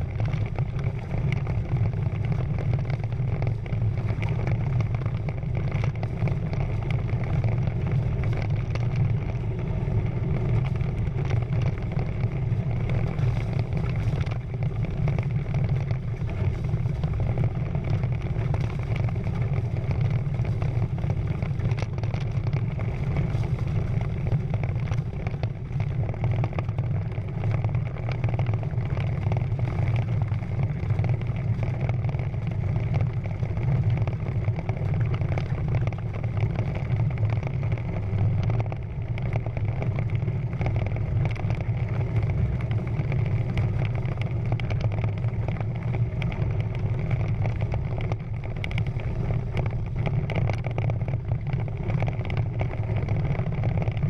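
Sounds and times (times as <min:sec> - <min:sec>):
water rushing along hulls: 0:00.0 - 0:54.0.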